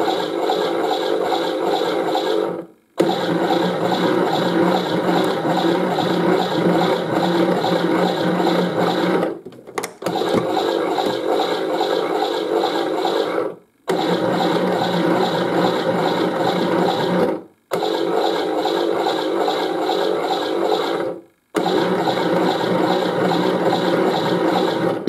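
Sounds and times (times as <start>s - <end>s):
toy washing machine whirring: 0.0s - 9.4s, 10.0s - 25.0s.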